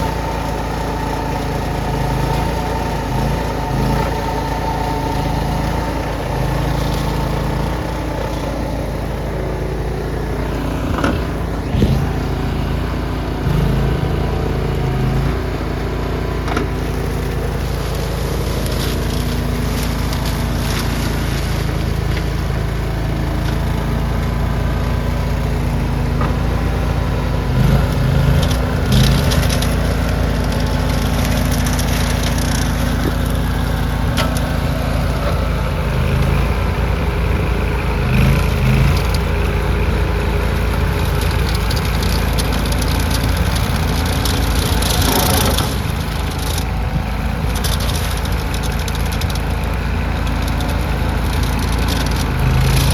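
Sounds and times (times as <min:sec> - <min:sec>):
skid steer engine running: 0:00.0 - 0:52.9.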